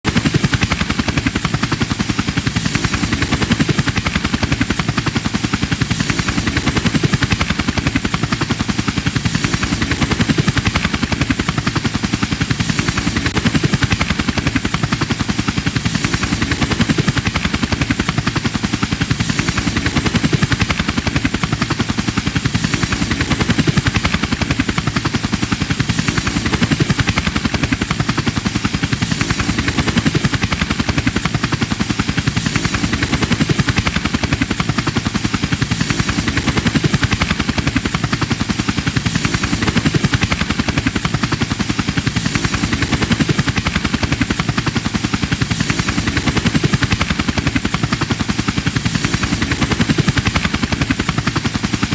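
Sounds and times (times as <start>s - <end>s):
helicopter rotor chop: 0.0s - 51.9s.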